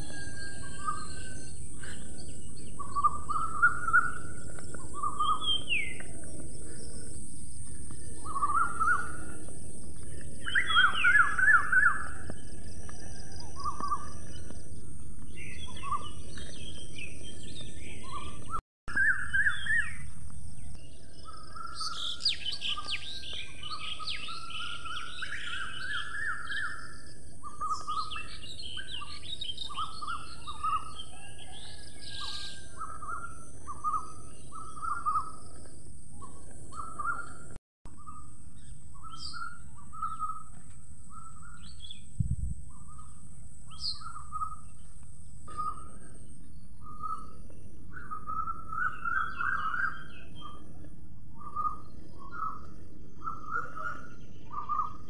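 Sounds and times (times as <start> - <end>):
birds chirping and trilling: 0.0 - 55.0
low rumble of field noise: 0.0 - 55.0.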